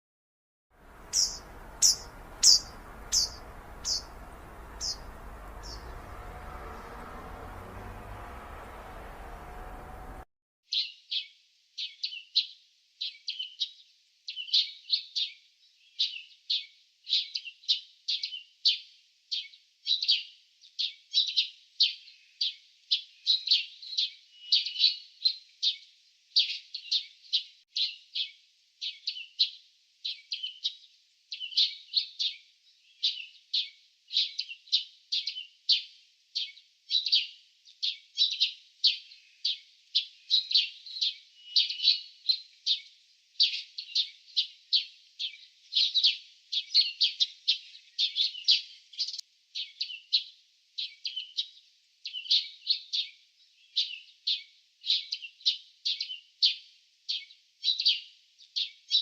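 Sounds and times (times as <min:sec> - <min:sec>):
small birds chirping: 0:00.8 - 0:59.0.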